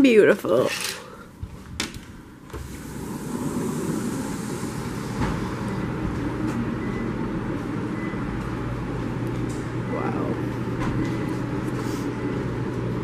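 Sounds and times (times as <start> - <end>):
street traffic noise: 2.3 - 13.0.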